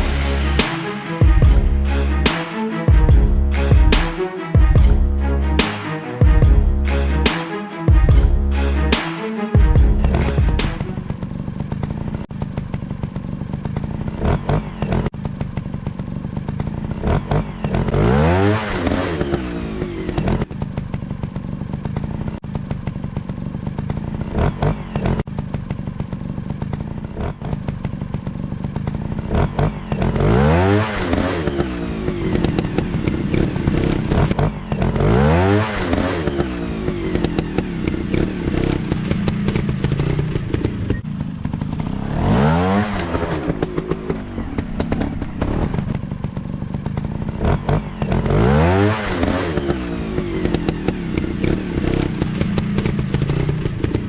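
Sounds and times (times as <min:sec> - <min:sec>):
dirt bike engines revving: 0:08.2 - 0:54.0.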